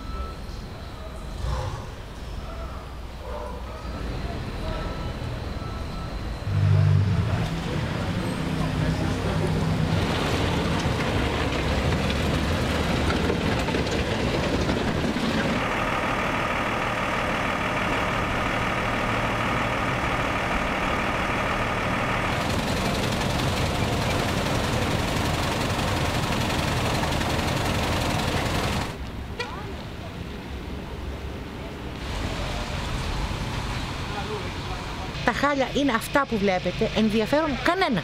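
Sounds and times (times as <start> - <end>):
heavy vehicle engines running: 0.0 - 38.0.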